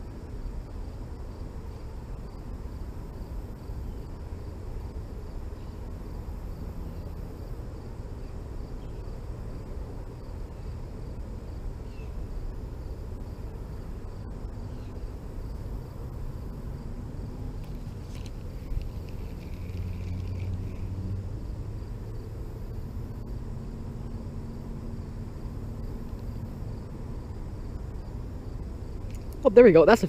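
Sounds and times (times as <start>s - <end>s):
insects chirping: 0.0s - 30.0s
low outdoor rumble: 0.0s - 30.0s.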